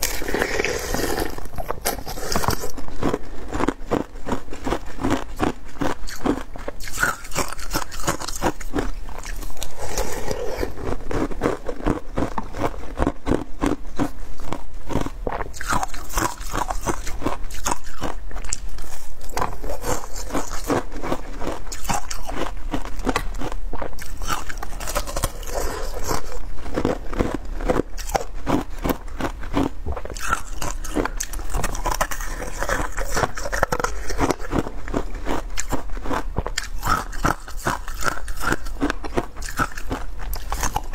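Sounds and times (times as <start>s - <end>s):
crunching ice being chewed: 0.0s - 40.9s.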